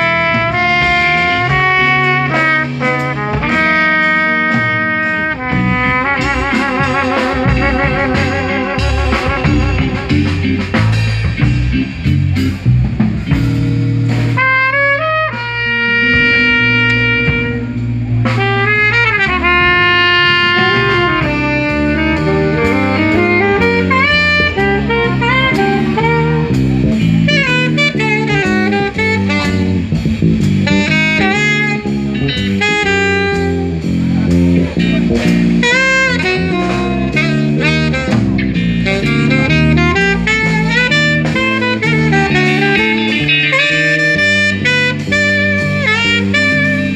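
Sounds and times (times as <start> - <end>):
trumpet: 0.0 - 11.0, 14.1 - 46.9
saxophone: 0.0 - 12.0, 14.1 - 46.9
drums: 0.0 - 46.9
guitar: 0.0 - 46.9
walking double bass: 0.0 - 46.9.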